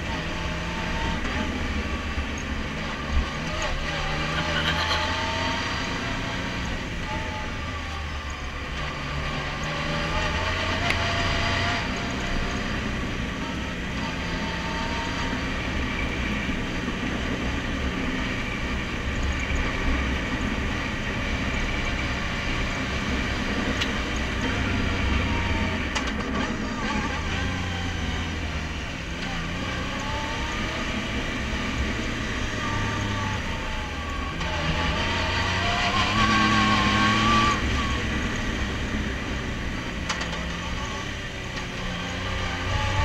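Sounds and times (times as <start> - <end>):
road and chassis noise: 0.0 - 43.0
utility vehicle engine running: 0.0 - 43.0.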